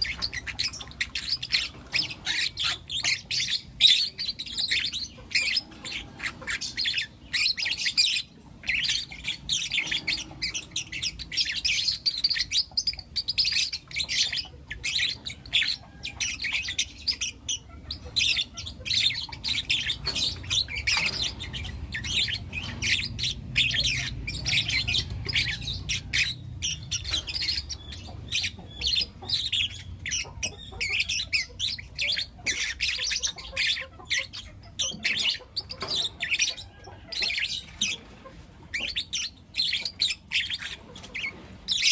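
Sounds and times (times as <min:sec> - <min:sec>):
lovebirds chirping and squawking: 0:00.0 - 0:41.9.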